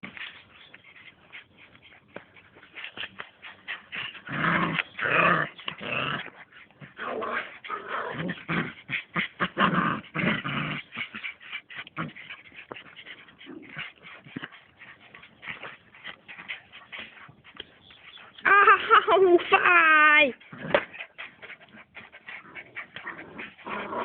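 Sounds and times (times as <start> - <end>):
puppies growling and whimpering: 0.0 - 19.6, 20.4 - 24.0.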